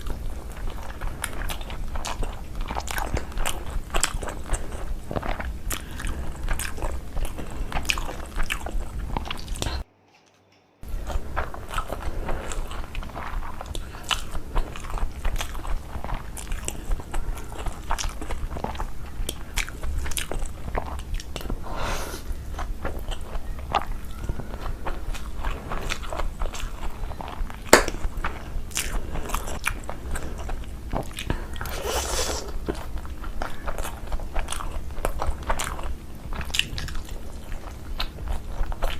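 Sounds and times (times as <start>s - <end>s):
person chewing food: 0.0s - 9.9s, 10.8s - 38.9s.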